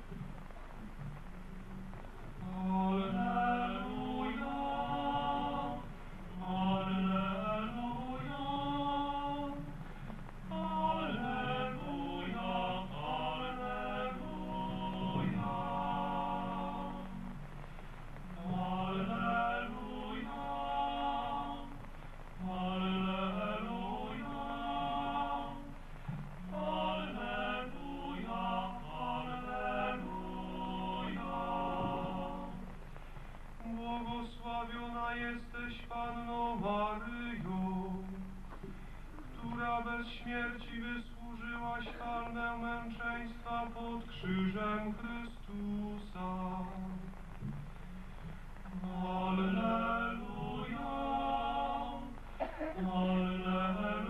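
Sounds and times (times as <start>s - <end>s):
voices singing a chant: 2.4s - 17.6s, 18.2s - 32.9s, 33.6s - 54.0s.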